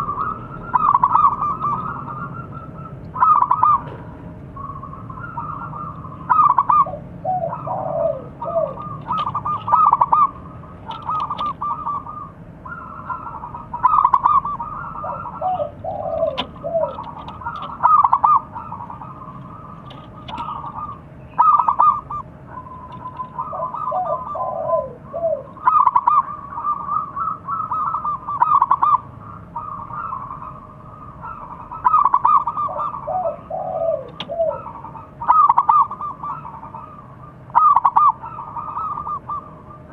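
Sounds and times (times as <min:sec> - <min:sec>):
dove cooing song: 0:00.0 - 0:39.9.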